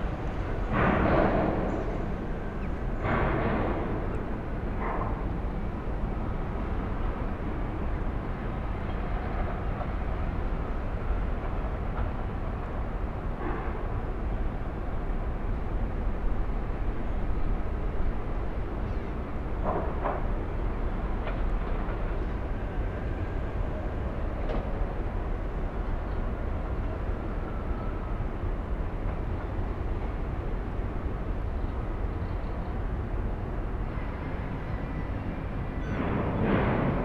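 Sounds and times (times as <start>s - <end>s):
low harbour rumble: 0.0s - 37.0s.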